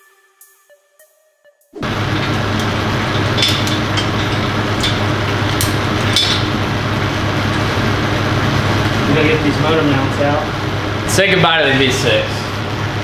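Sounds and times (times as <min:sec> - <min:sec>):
loud mechanical hum: 0:01.8 - 0:13.0.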